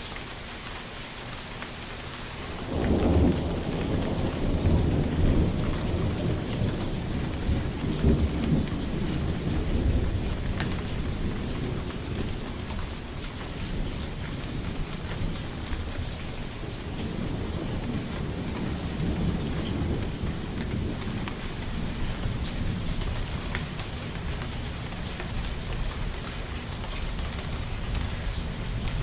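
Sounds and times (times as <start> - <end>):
steady rain falling: 0.0 - 29.0
rolling thunder: 2.5 - 29.0.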